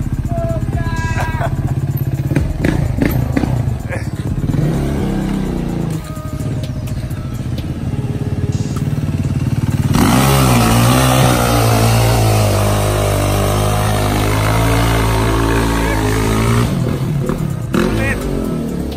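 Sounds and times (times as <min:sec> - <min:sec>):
dirt bike engine running: 0:00.0 - 0:18.9.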